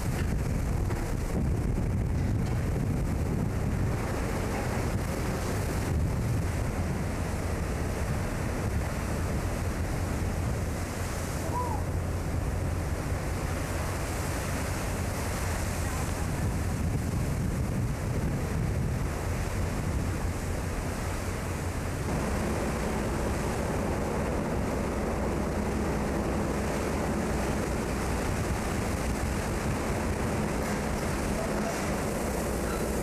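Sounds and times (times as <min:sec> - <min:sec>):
low steady hum: 0:00.0 - 0:33.0
rough sea breaking along hull: 0:00.0 - 0:33.0
wind buffeting microphone: 0:00.0 - 0:33.0.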